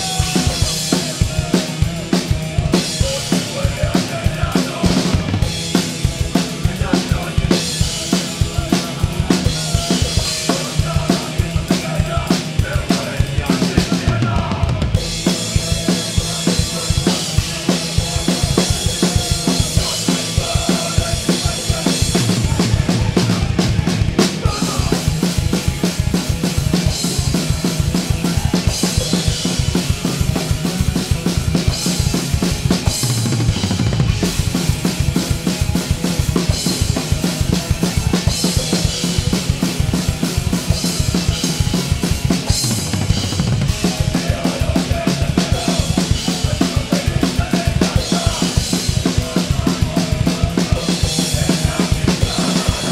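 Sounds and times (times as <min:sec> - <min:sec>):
guitars and bass playing: 0:00.0 - 0:52.9
rapid bass drum strokes: 0:00.0 - 0:52.9.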